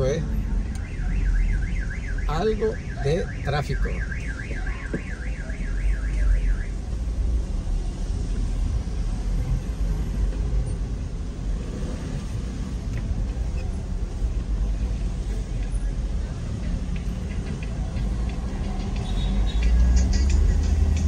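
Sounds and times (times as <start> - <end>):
car engine rumble: 0.0 - 21.0
street traffic: 0.0 - 21.0.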